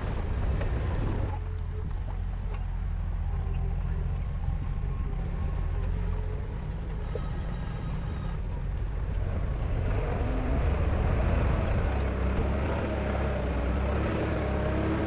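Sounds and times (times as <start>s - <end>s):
heavy diesel engine under load: 0.0s - 15.0s.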